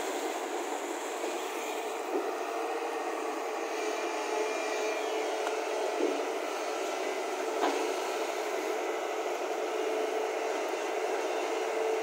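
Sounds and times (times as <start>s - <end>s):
excavator engine and hydraulics: 0.0s - 12.0s.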